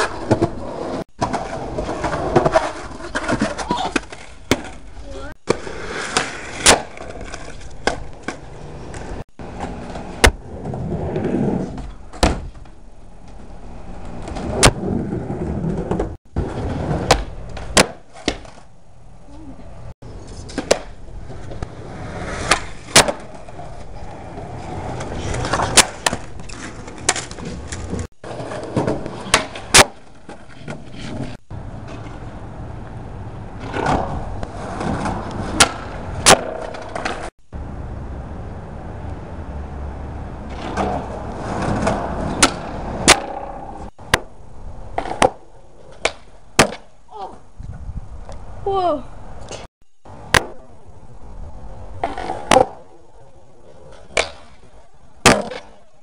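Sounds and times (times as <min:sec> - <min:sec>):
skateboard wheels rolling on concrete: 0:00.0 - 0:56.0.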